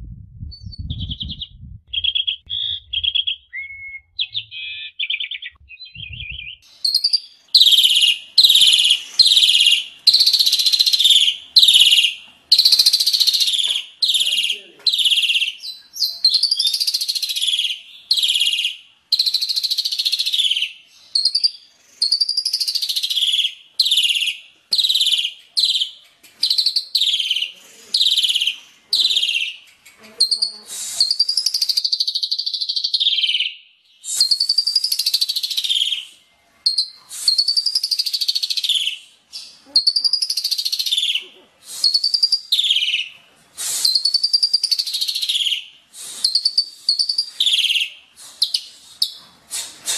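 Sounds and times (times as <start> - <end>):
songbird singing harsh rapid song: 0.6 - 43.2, 43.8 - 48.8.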